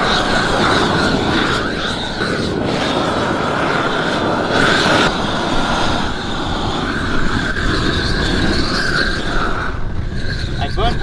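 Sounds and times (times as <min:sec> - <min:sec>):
torch flame rushing: 0:00.0 - 0:11.0.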